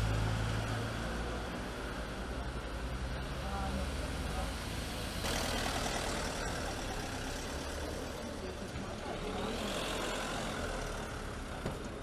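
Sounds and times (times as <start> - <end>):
outdoor street noise: 0.0 - 12.0.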